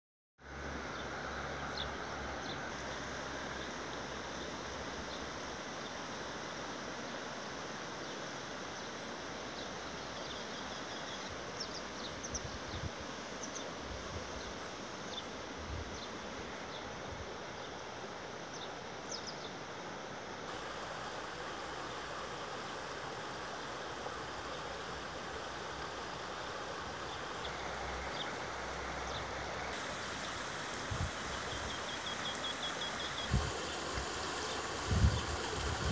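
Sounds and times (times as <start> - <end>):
river water rushing: 0.4 - 12.2, 13.0 - 35.9.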